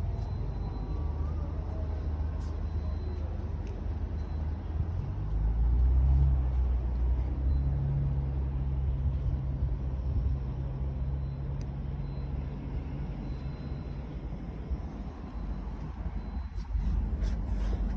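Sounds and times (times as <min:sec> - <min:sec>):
motor vehicle rumbling: 0:00.0 - 0:17.9.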